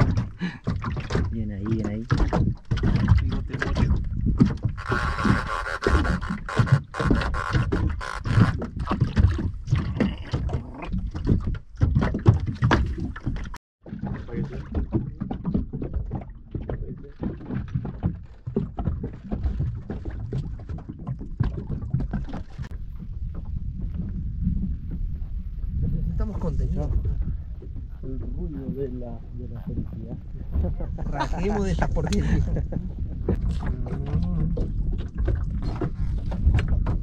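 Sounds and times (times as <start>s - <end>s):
wind on microphone: 0.0s - 13.3s, 14.3s - 37.0s
water slapping against hull: 0.0s - 37.0s.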